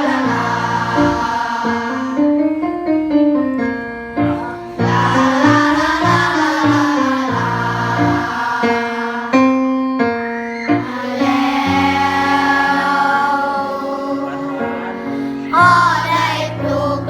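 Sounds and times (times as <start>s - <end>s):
voices singing warm-up: 0.0s - 3.0s, 4.7s - 9.7s, 10.8s - 17.0s.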